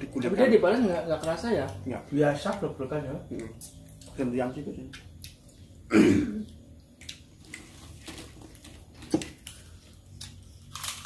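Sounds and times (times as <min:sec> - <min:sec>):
people chewing: 0:00.0 - 0:11.0.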